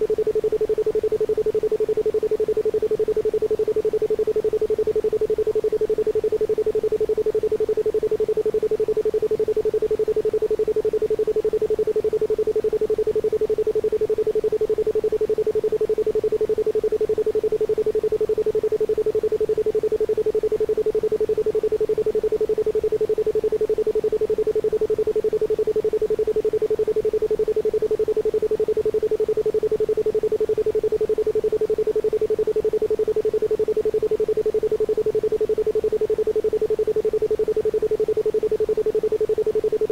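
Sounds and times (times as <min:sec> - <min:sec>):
pulsed pure tone: 0:00.0 - 0:39.9.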